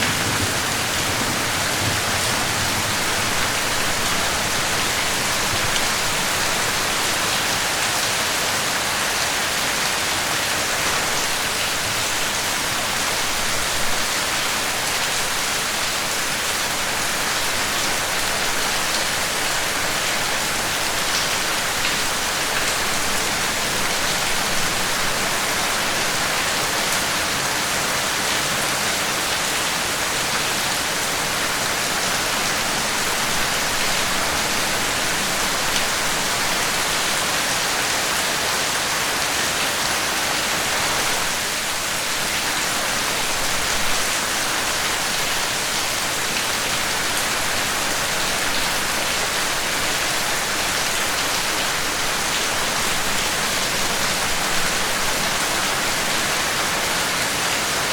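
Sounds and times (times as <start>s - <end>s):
steady rain hissing: 0.0s - 57.9s.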